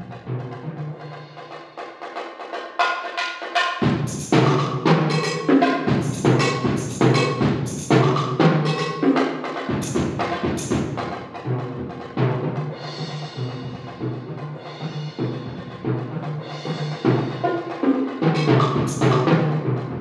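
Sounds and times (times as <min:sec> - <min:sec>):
drums played fast: 0:00.0 - 0:20.0.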